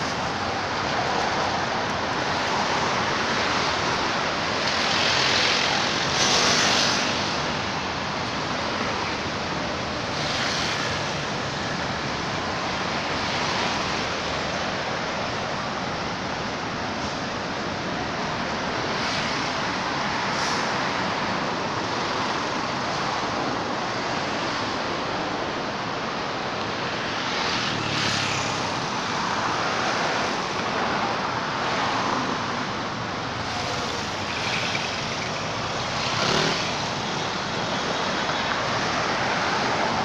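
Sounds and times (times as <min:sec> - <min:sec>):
road traffic noise: 0:00.0 - 0:40.0
vehicles passing: 0:00.0 - 0:40.0.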